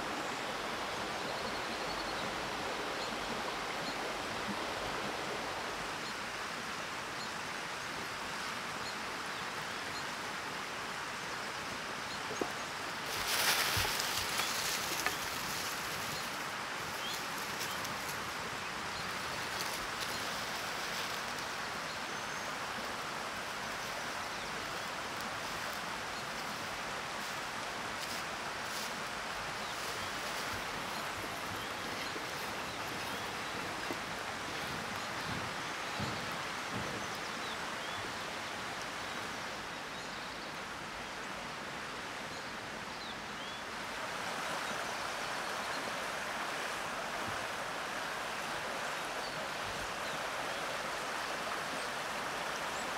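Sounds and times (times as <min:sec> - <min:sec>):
rushing outdoor background: 0:00.0 - 0:52.9.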